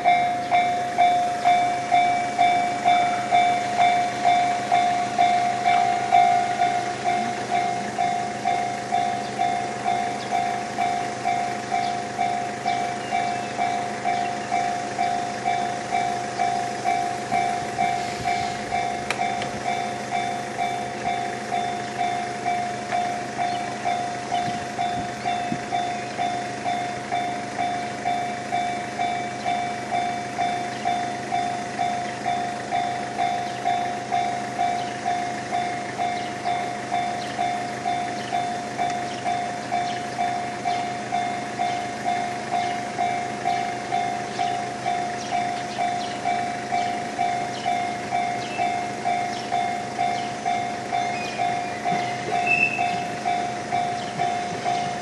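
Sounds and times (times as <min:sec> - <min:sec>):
level crossing warning bell: 0:00.0 - 0:55.0.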